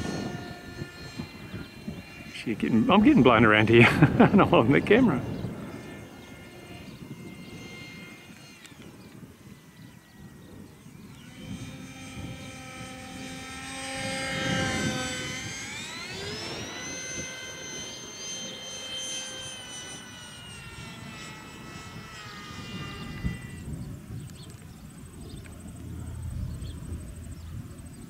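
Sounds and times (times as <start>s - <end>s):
electric fan whining: 0.0s - 28.0s
wind buffeting microphone: 0.0s - 28.0s.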